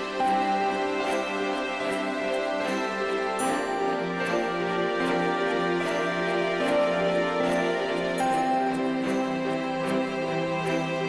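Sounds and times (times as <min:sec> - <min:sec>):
christmas music with light beat: 0:00.0 - 0:11.0.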